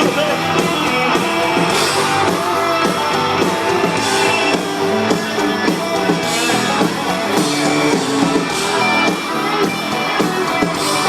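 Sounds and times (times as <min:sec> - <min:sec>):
drum kit beat: 0:00.0 - 0:11.0
electric guitars: 0:00.0 - 0:11.0.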